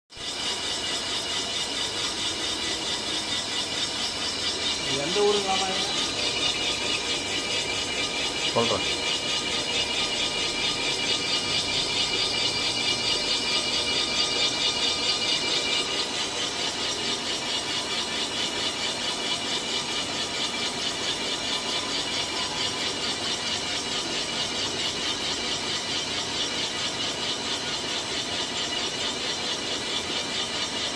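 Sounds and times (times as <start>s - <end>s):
boring machine cutting: 0.2s - 30.9s.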